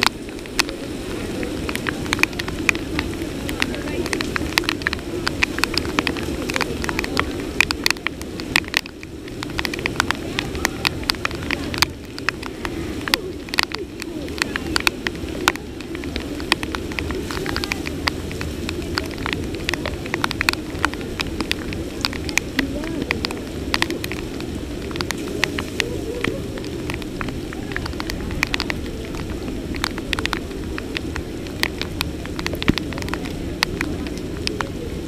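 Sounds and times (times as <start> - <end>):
heavy rain falling: 0.0 - 35.0
raindrops tapping near microphone: 0.0 - 35.0.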